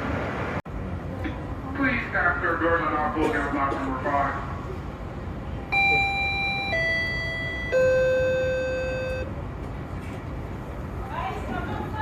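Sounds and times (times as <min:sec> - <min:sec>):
train hum: 0:00.0 - 0:12.0.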